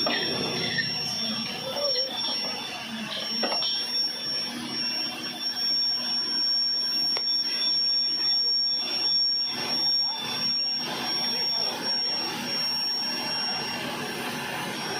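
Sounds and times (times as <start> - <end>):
air compressor running: 0.0 - 14.9
high whistling tone: 0.0 - 14.9.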